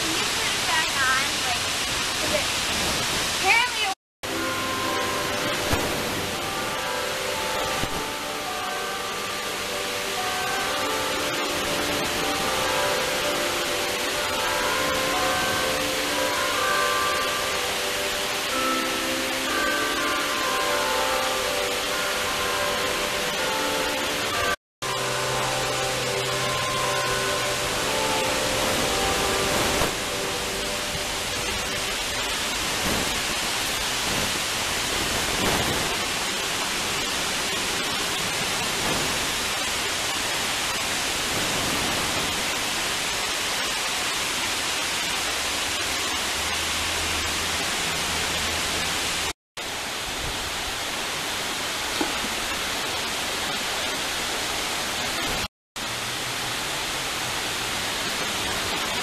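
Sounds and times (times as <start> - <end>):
water rushing over dam spillway: 0.0 - 24.3, 25.4 - 59.0.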